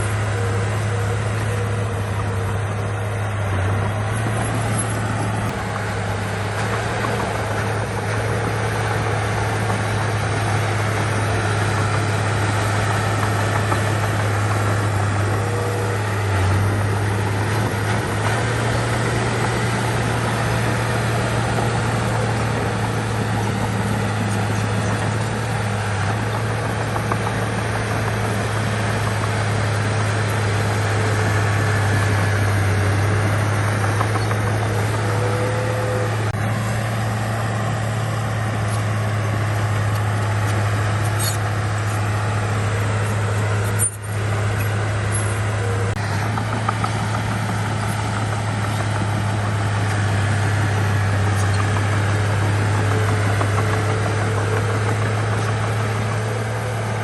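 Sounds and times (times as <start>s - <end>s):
heavy machinery diesel engine running: 0.0s - 57.0s.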